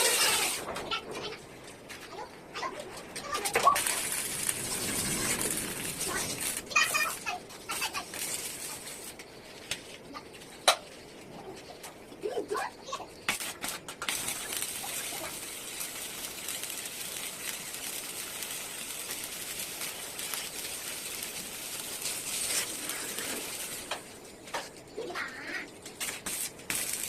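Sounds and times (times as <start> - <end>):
arc welding crackling hiss: 0.0 - 27.0.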